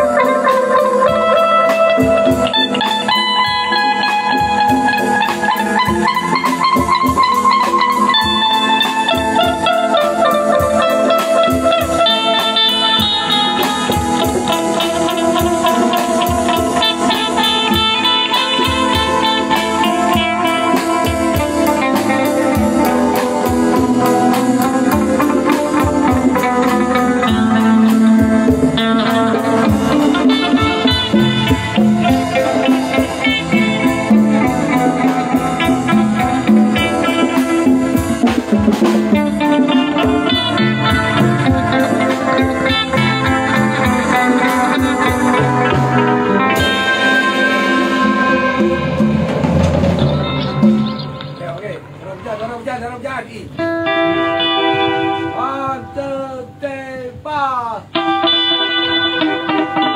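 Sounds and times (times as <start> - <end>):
congas: 0.0 - 59.9
drum kit: 0.0 - 59.9
electric guitar through amplifier: 0.0 - 59.9.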